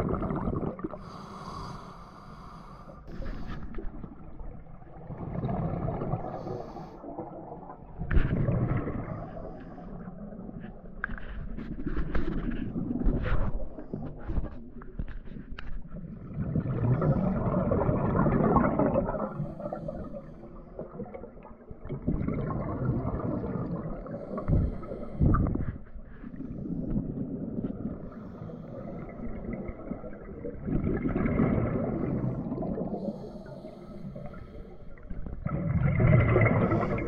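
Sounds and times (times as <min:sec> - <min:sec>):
underwater bubbles exhaling: 0:00.0 - 0:01.8, 0:02.4 - 0:10.5, 0:15.9 - 0:37.0.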